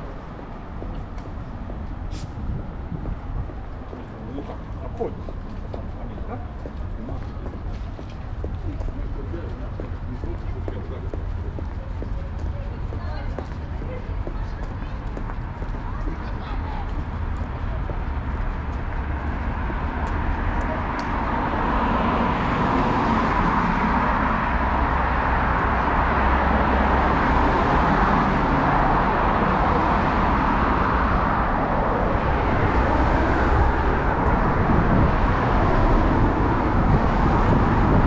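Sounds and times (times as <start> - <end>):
cars passing on street: 0.0 - 38.0.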